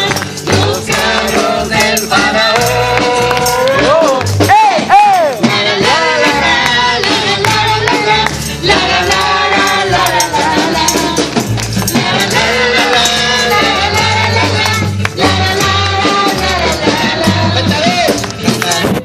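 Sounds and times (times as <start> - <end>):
live band praise music: 0.0 - 19.0
tambourine shaking: 0.0 - 19.0.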